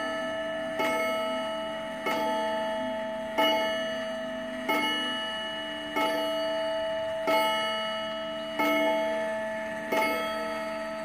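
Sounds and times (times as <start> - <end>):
wall clock gong striking: 0.0 - 11.0.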